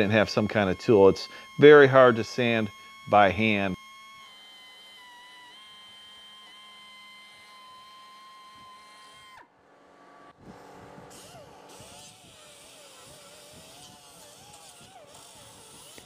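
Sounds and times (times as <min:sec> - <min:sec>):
air grinder sanding fiberglass: 0:00.0 - 0:09.4, 0:10.4 - 0:16.0
pneumatic belt sander whine: 0:00.0 - 0:16.0.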